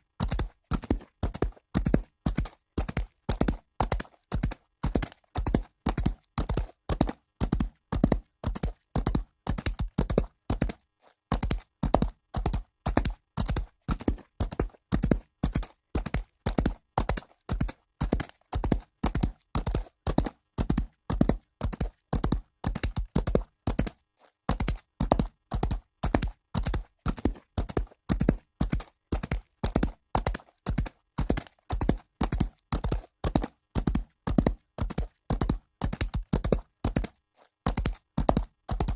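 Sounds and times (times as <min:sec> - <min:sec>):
horse hoofbeats on dirt: 0:00.0 - 0:38.9.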